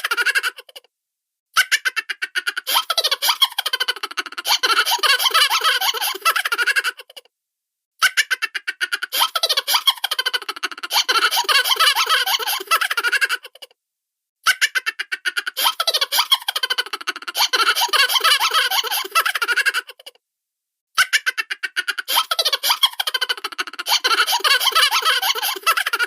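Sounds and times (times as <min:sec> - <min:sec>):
cartoon laughter: 0:00.0 - 0:00.9, 0:01.6 - 0:07.3, 0:08.0 - 0:13.7, 0:14.4 - 0:20.2, 0:21.0 - 0:26.0.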